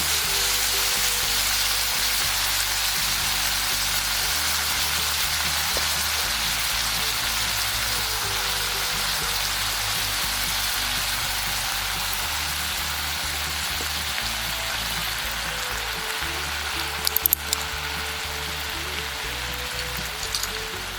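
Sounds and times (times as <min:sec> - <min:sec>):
background music with bass: 0:00.0 - 0:20.9
food sizzling in a pan: 0:00.0 - 0:20.9.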